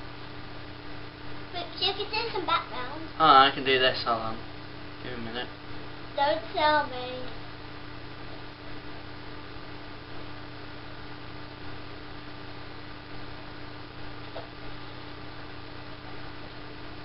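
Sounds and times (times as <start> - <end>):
constant hiss: 0.0 - 17.0
electrical hum: 0.0 - 17.0.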